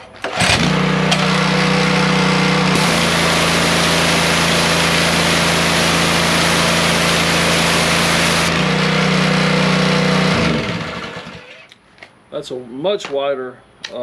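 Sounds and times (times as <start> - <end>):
pressure washer engine droning: 0.2 - 11.7.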